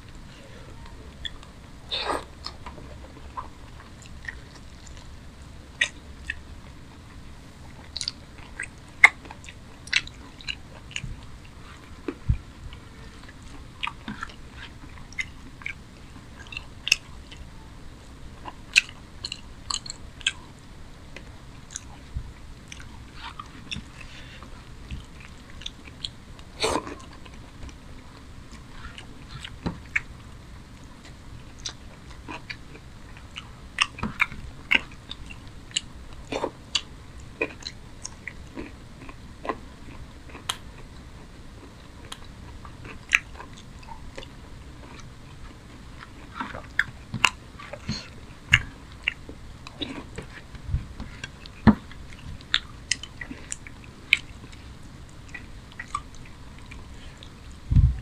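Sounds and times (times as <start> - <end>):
man chewing food: 0.0 - 58.0.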